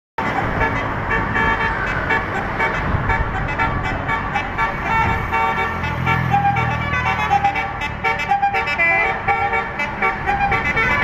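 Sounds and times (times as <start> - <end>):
multi-note musical bus horn: 0.2 - 11.0.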